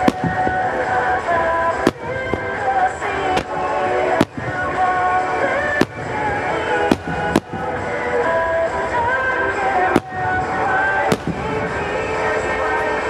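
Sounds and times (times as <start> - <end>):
firework bangs: 0.0 - 13.0
music with long held notes: 0.0 - 13.0.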